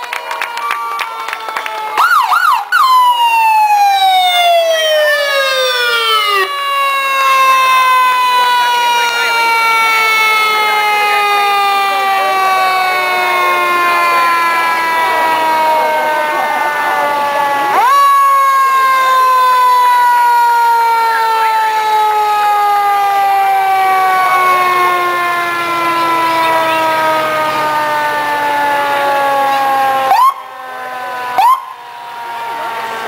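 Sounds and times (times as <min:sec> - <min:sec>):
mechanical siren wailing: 0:00.6 - 0:33.0.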